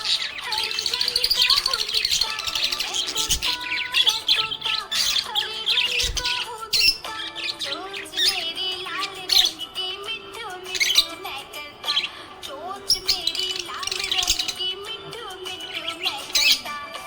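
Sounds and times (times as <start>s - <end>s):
budgerigar chirping and warbling: 0.0s - 17.0s.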